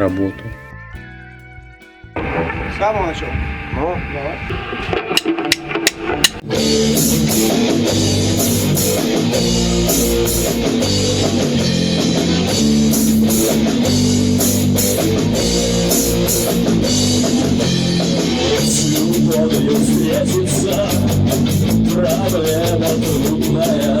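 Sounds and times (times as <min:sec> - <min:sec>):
rock guitar: 0:00.0 - 0:24.0
drum kit: 0:01.8 - 0:24.0.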